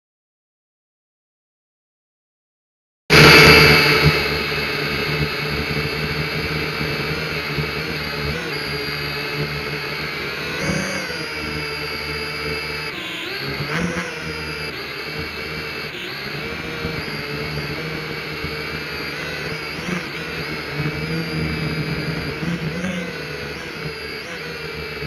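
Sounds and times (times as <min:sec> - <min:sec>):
motor whirring: 0:03.1 - 0:25.0.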